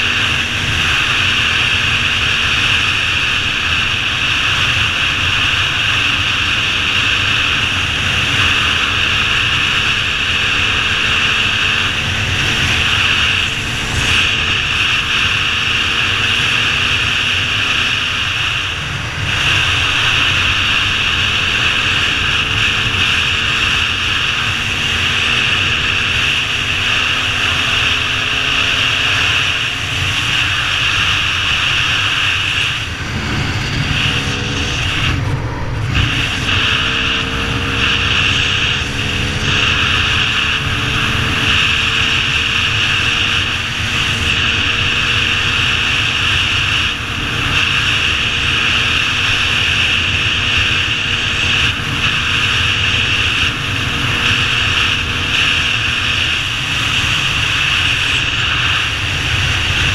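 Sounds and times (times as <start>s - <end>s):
dirt bike engine revving: 0.0s - 59.9s
wind rushing on microphone: 0.0s - 59.9s.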